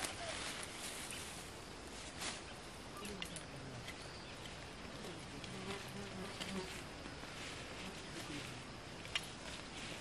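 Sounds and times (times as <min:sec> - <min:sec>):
leafy plants rustling: 0:00.0 - 0:10.0.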